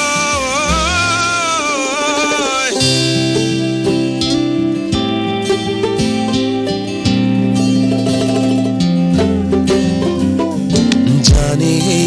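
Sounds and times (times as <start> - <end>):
bass line: 0.0 - 6.0, 6.6 - 11.9
instrumental song with held notes: 0.0 - 12.0.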